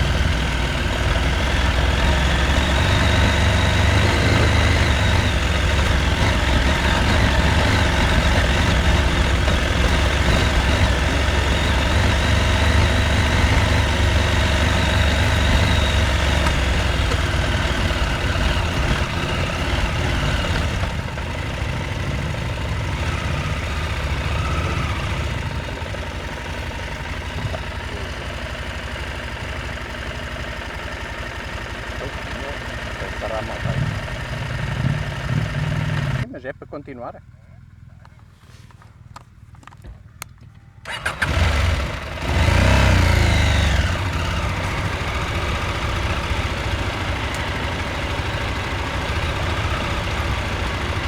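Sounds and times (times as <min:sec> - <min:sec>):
motorcycle engine running at low revs: 0:00.0 - 0:51.0.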